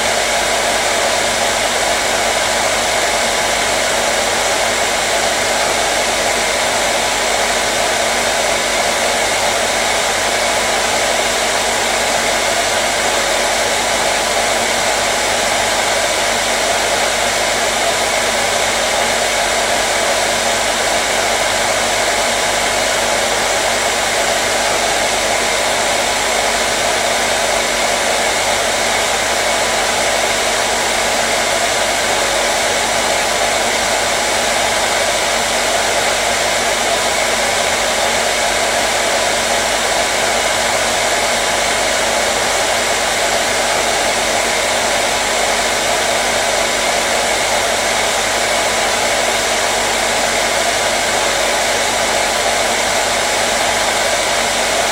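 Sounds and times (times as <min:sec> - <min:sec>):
hair dryer rushing air: 0:00.0 - 0:54.9.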